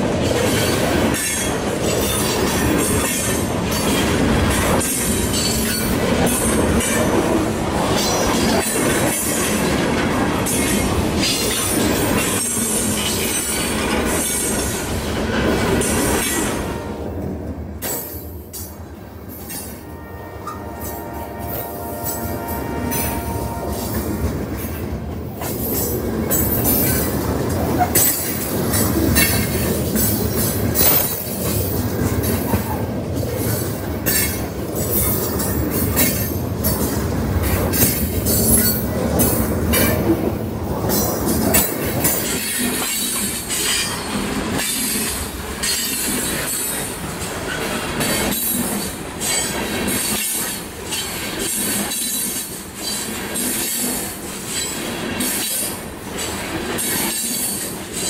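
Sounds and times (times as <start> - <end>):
wheels clicking over rail joints: 0.0 - 16.6, 22.9 - 58.0.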